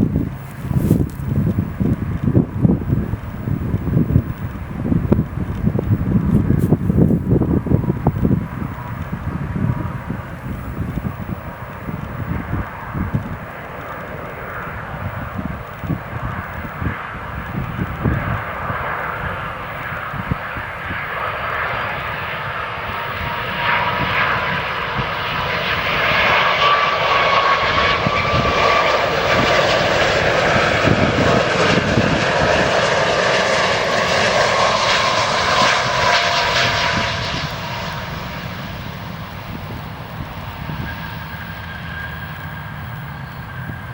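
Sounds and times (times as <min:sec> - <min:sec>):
jet airliner engines passing: 0:00.0 - 0:43.9.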